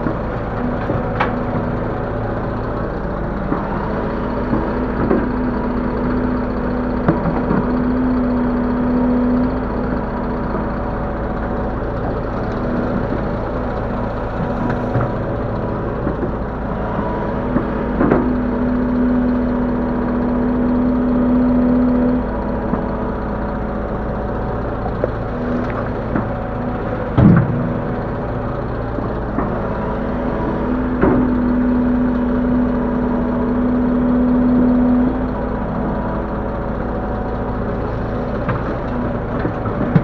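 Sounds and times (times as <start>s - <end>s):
excavator diesel engine running: 0.0s - 40.0s
hydraulics under load: 0.0s - 40.0s.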